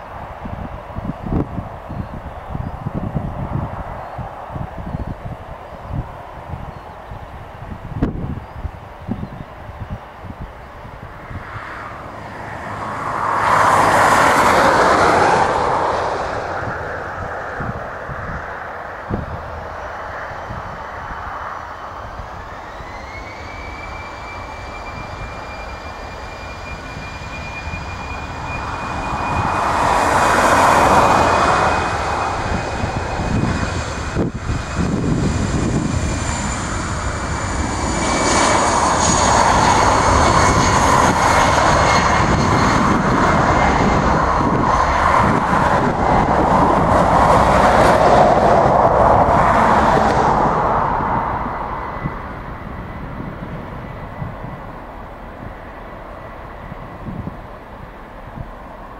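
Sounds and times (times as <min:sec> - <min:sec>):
jet engine fan whine: 0:00.0 - 0:58.9
rushing jet noise: 0:00.0 - 0:58.9.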